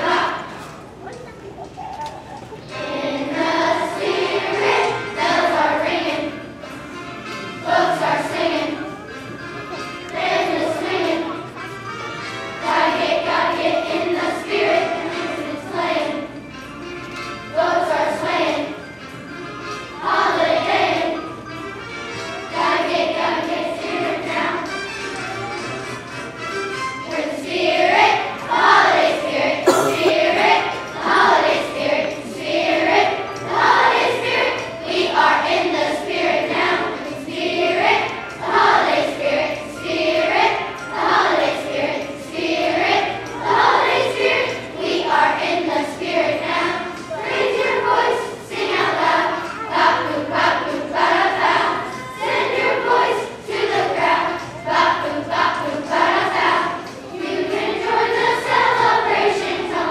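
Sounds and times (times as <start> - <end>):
children's choir singing: 0.0 - 0.8, 2.6 - 11.6, 12.4 - 16.5, 17.5 - 19.1, 20.0 - 21.3, 22.4 - 24.7, 27.0 - 59.9.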